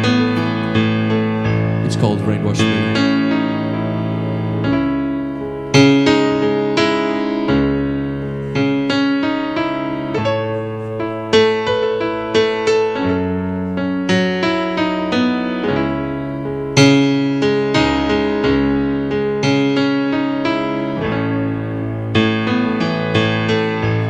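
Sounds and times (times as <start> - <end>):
piano chords and notes: 0.0 - 24.0.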